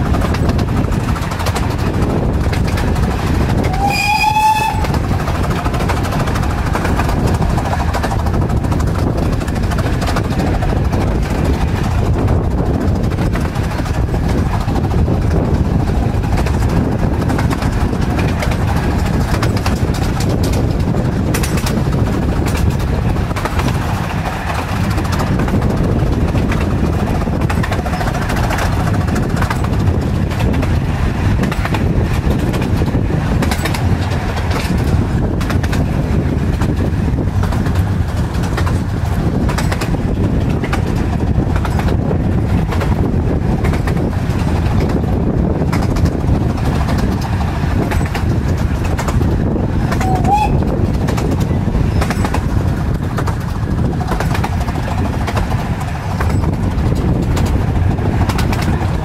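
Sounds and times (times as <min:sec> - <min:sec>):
wheels running on rails: 0:00.0 - 0:59.0.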